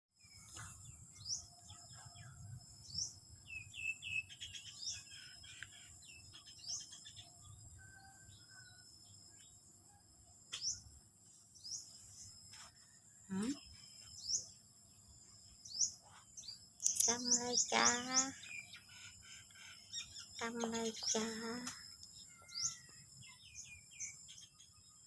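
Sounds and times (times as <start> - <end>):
birds chirping: 0.2 - 8.7, 11.6 - 25.0.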